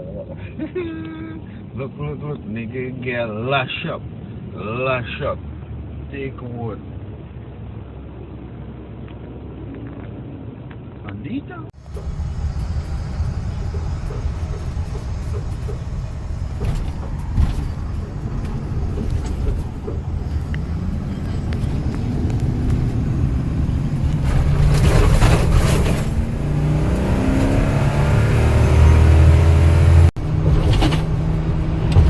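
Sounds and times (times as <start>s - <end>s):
road noise: 0.0s - 32.0s
vehicle engine: 4.0s - 32.0s.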